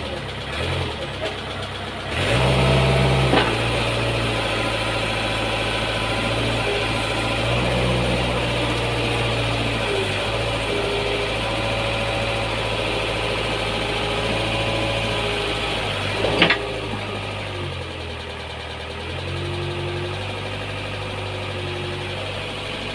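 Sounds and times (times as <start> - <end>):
excavator diesel engine running: 0.0 - 22.9.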